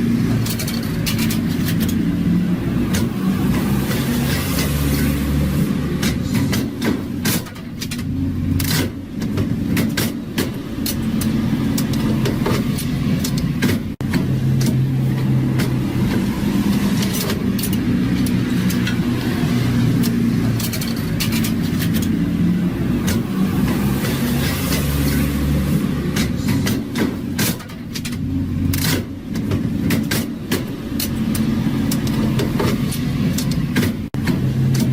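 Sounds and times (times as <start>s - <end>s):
sharp clicks and knocks: 0.3s - 2.1s, 2.8s - 5.1s, 5.9s - 22.2s, 23.0s - 25.4s, 26.1s - 34.9s.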